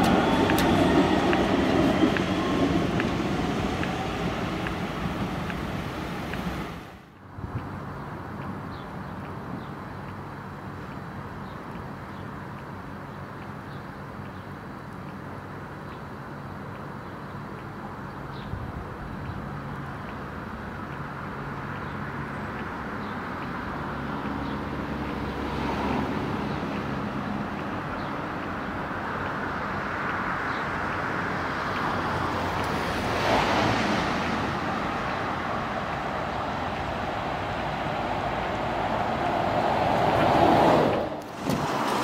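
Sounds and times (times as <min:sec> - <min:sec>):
transit vehicle humming: 0:00.0 - 0:42.0.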